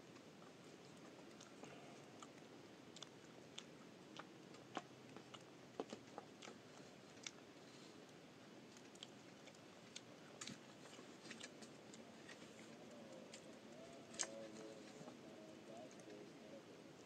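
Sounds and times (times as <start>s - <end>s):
faint irregular clicks: 0.0s - 16.3s.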